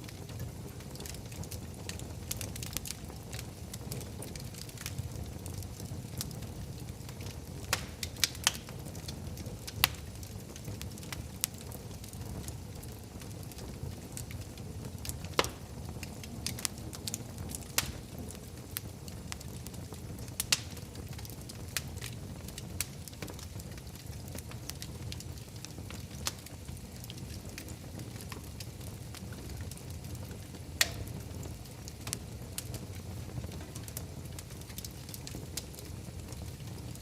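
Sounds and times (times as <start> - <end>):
fire popping and crackling: 0.0 - 37.0
flames rumbling: 0.0 - 37.0.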